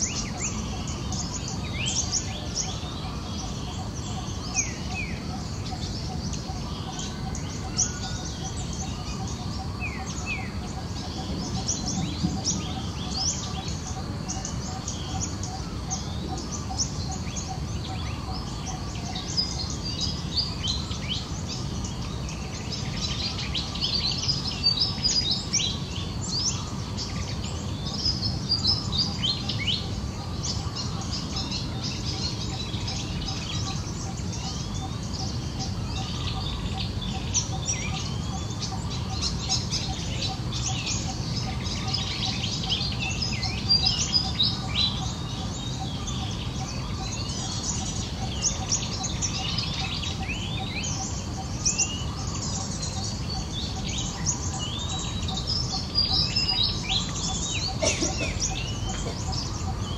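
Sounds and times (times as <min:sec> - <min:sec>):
faint low background noise: 0:00.0 - 0:59.9
small birds chirping: 0:00.0 - 0:59.9.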